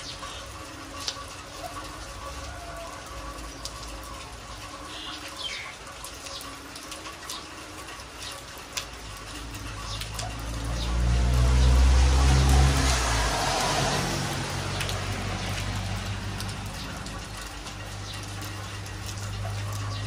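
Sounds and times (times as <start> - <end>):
rain on concrete and puddles: 0.0 - 20.0.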